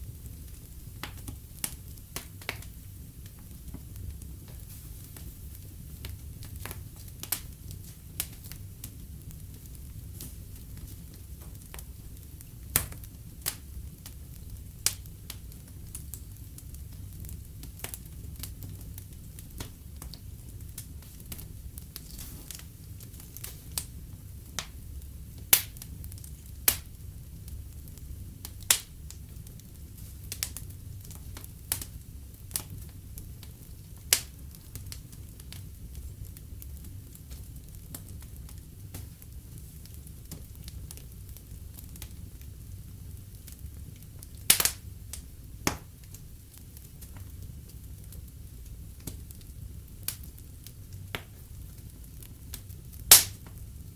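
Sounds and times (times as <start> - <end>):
sharp pops of fire: 0.0 - 41.1, 41.8 - 53.8
low rumble of flames: 0.0 - 53.9
wood fire crackling: 0.0 - 53.9.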